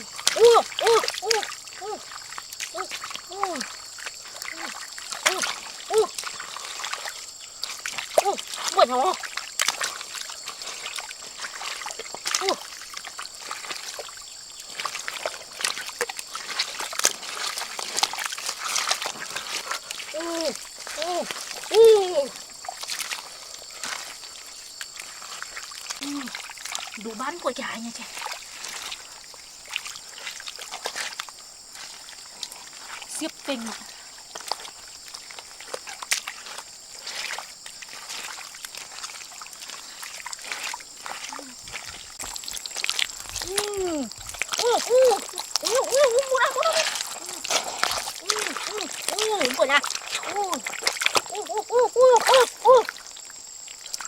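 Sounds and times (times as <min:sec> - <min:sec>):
water trickling and sloshing: 0:00.0 - 0:54.0.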